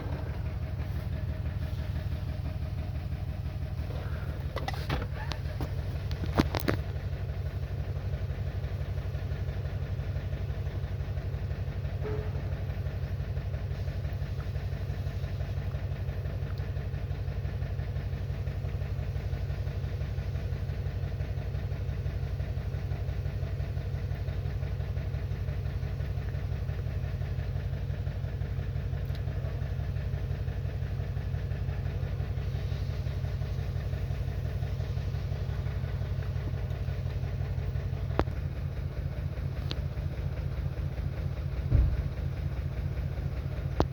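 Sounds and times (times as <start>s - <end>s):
car engine idling with misfire: 0.0s - 43.9s.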